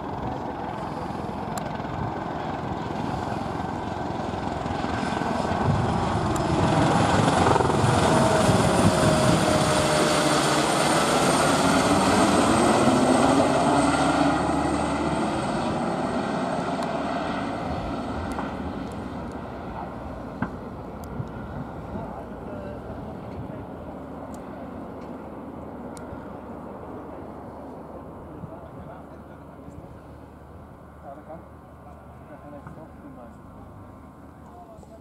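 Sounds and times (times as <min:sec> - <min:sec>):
helicopter rotor and turbine noise: 0:00.0 - 0:35.0.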